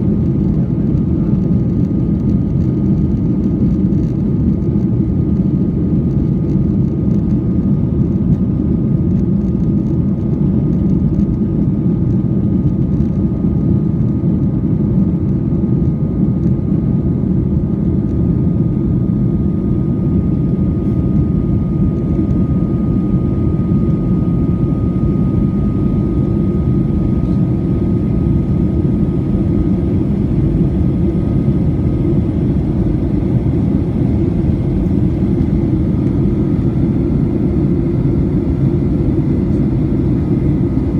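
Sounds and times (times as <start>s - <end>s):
faint steady whine: 0.0s - 40.9s
jet engine and airflow rumble: 0.0s - 40.9s.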